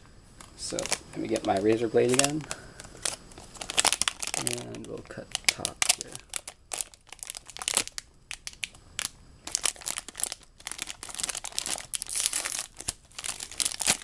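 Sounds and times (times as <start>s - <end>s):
plastic bag crinkling: 0.4s - 14.0s.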